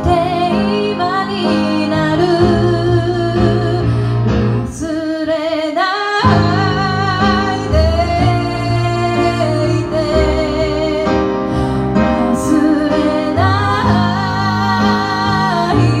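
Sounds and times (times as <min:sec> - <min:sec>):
woman singing: 0:00.0 - 0:03.9, 0:04.6 - 0:11.3, 0:12.0 - 0:16.0
bass: 0:00.0 - 0:05.0, 0:06.2 - 0:16.0.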